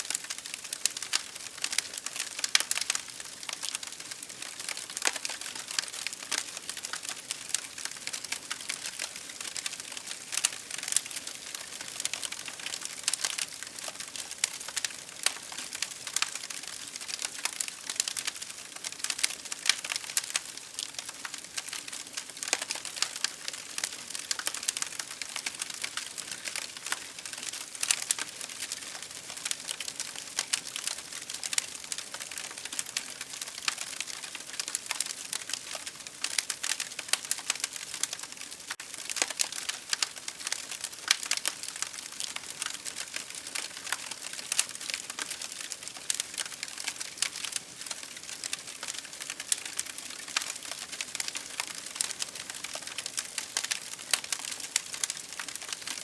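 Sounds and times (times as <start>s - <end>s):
campfire crackling: 0.1s - 56.0s.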